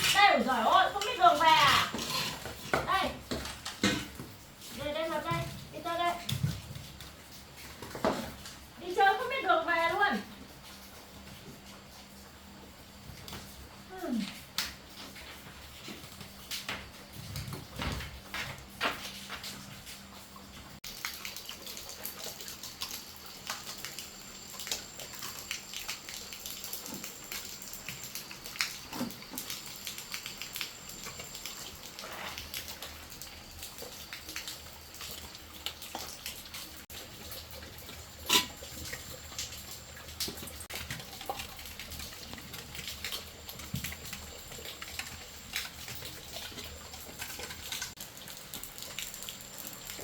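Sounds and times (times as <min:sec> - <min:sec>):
rain dripping and pattering: 0:00.0 - 0:50.0.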